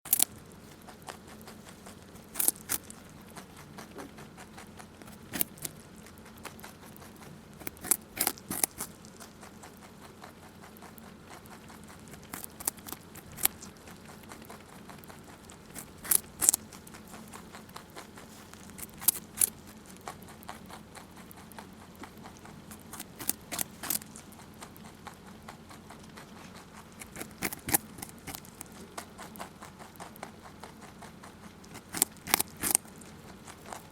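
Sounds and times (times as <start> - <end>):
rabbit crunching carrot: 0.1 - 33.9.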